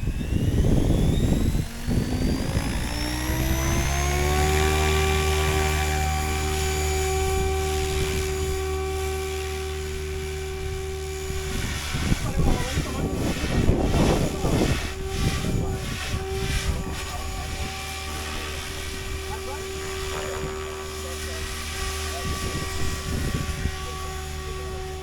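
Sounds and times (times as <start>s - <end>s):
rc helicopter rotor and motor whine: 0.0s - 25.0s.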